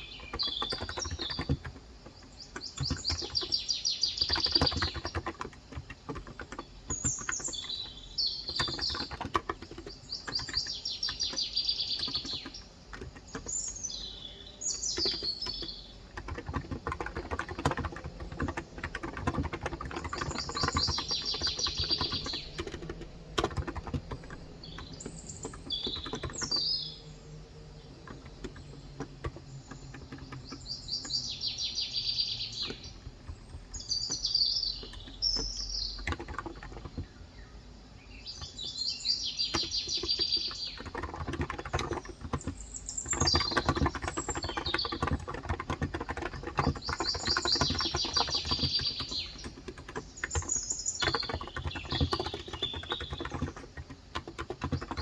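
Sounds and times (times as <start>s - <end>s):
keyboard typing clicks: 0.0s - 31.4s, 32.6s - 37.2s, 39.4s - 55.0s
birds singing: 0.0s - 55.0s.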